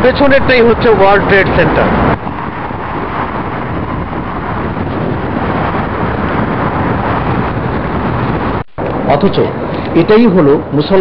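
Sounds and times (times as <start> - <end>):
traffic hum: 0.0 - 11.0
wind on microphone: 0.0 - 11.0.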